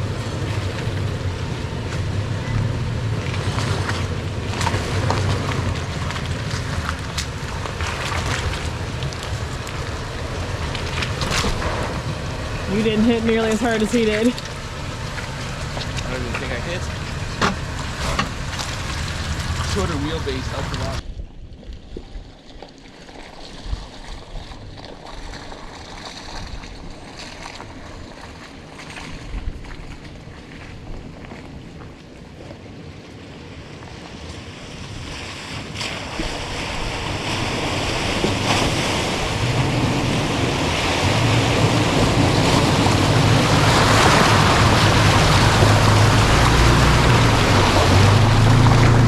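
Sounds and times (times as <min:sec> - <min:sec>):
off-road vehicle engine rumble: 0:00.0 - 0:21.0, 0:27.1 - 0:49.0.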